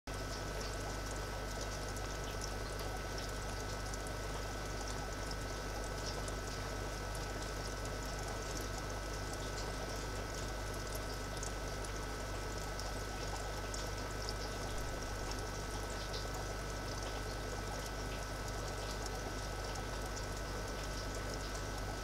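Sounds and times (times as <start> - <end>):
aquarium water trickling: 0.1 - 22.0
low constant hum: 0.1 - 22.0.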